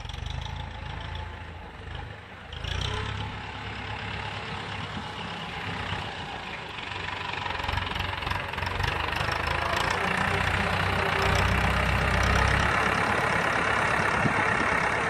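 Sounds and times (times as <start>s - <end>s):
tractor engine throbbing: 0.0s - 15.0s.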